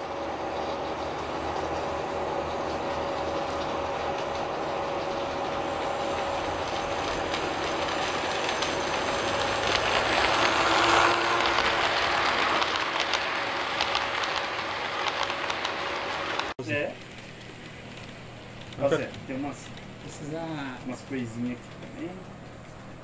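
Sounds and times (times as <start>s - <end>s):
model train rumbling on track: 0.0s - 23.0s.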